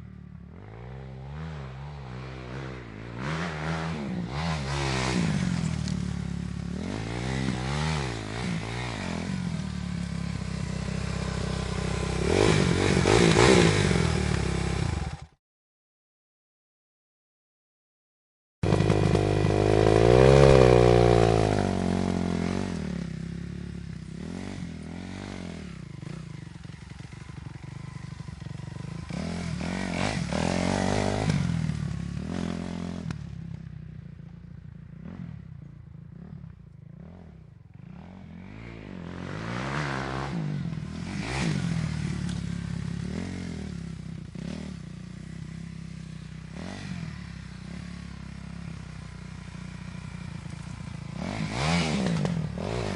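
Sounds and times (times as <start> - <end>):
motorcycle engine revving: 0.0 - 15.4, 18.6 - 52.9.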